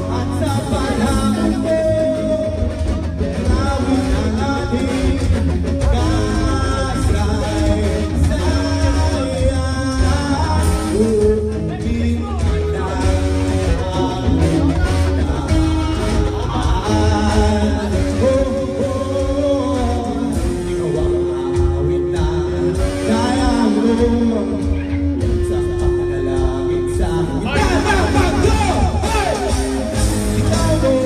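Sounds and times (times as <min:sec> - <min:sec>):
person singing: 0:00.0 - 0:31.0
rock band playing: 0:00.0 - 0:31.0.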